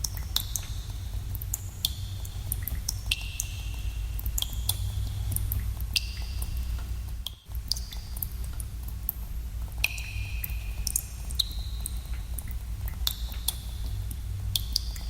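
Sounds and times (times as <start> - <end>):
water drops plinking in cave: 0.0 - 9.2, 9.8 - 15.0.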